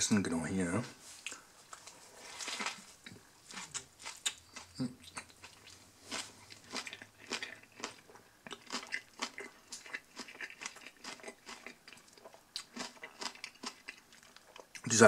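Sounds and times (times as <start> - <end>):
person chewing crunchy sandwich: 1.2 - 14.8.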